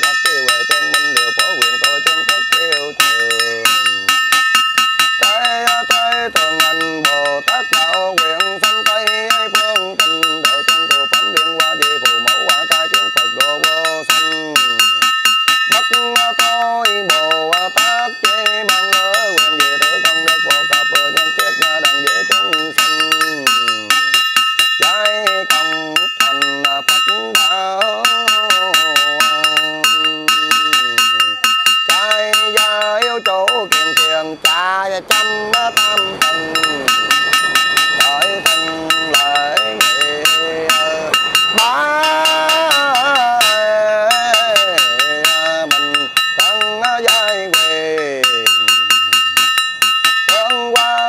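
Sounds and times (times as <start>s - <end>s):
person chanting: 0.0s - 4.2s, 5.2s - 15.0s, 15.7s - 24.2s, 24.8s - 49.2s, 50.3s - 51.0s
small metal bell struck rapidly: 0.0s - 51.0s.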